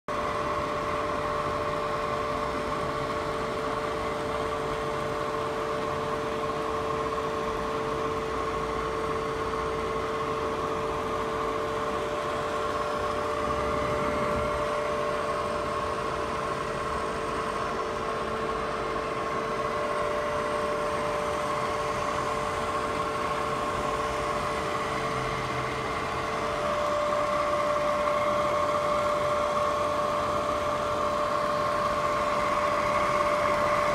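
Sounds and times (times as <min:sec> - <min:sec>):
high steady whine tones: 0:00.1 - 0:33.9
milling machine motor hum: 0:00.1 - 0:33.9.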